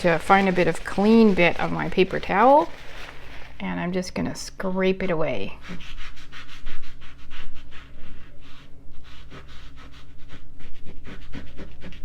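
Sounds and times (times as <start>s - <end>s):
paper towel rubbing on paper: 0.0s - 4.3s, 5.0s - 12.0s.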